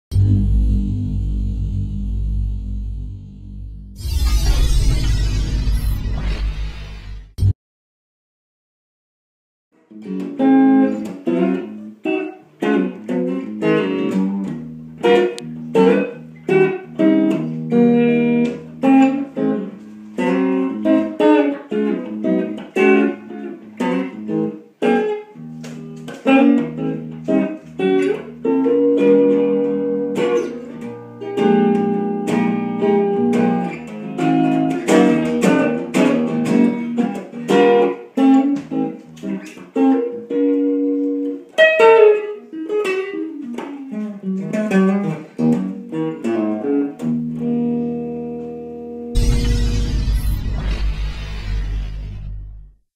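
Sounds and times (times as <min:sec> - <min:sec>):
electric guitar notes and chords: 0:00.1 - 0:07.0, 0:09.8 - 0:52.7.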